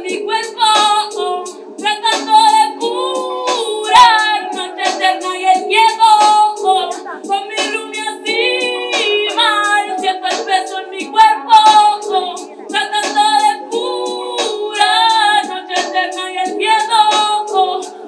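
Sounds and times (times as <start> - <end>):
sustained backing music: 0.0 - 18.0
woman singing into microphone: 0.0 - 18.0.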